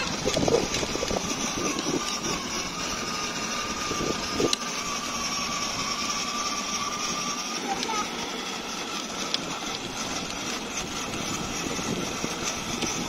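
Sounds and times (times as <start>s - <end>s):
electric motors whining: 0.0s - 13.0s
plastic wheels rolling on tarmac: 0.0s - 13.0s.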